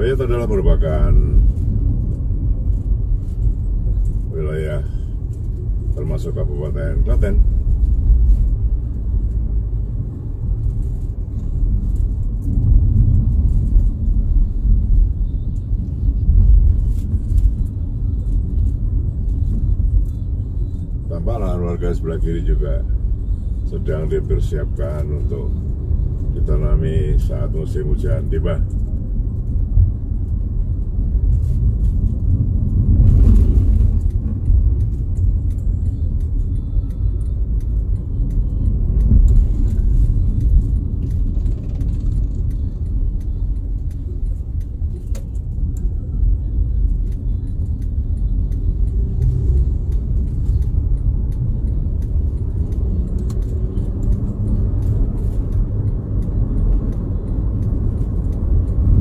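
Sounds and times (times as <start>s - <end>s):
vehicle engine and tyre noise: 0.0s - 59.0s.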